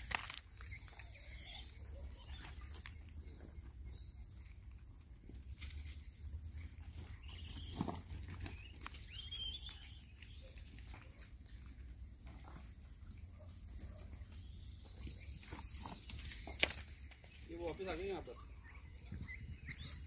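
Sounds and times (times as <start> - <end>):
faint high chirps: 0.0 - 4.8, 7.1 - 11.7, 12.8 - 20.0.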